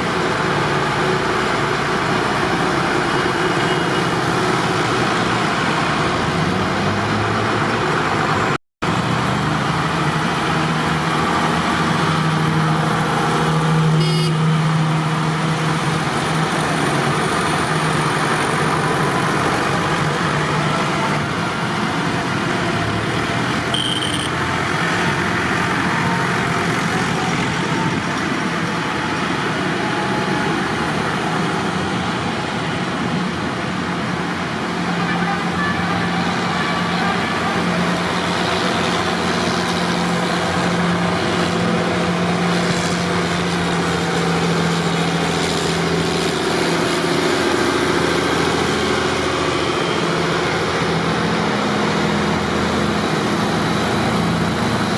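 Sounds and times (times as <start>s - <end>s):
road and running noise: 0.0s - 54.9s.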